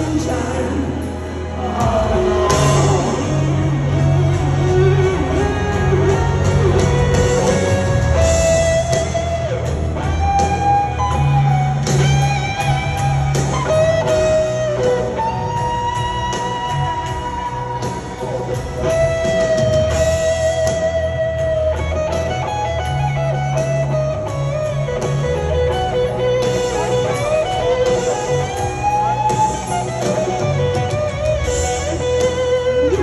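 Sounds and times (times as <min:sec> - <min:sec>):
bass and drums: 0:00.0 - 0:33.0
electric guitar lead: 0:00.0 - 0:33.0.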